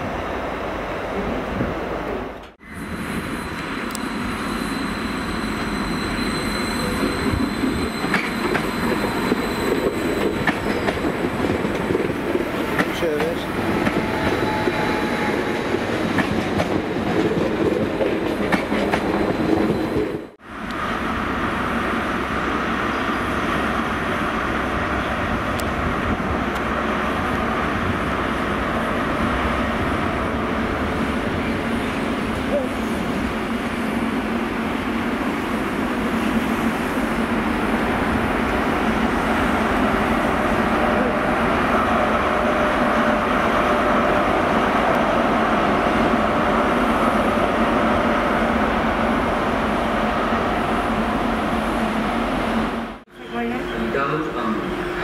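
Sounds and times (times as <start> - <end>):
train diesel engine droning: 2.6 - 11.4, 13.0 - 16.2, 19.6 - 55.0.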